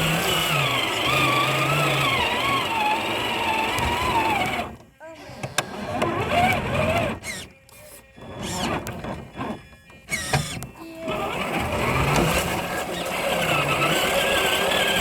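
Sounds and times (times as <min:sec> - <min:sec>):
toy truck electric motor whining: 0:00.0 - 0:15.0.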